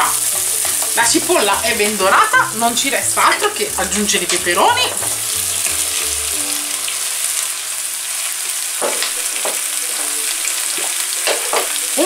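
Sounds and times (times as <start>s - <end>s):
peppers sizzling in hot oil: 0.0s - 12.0s.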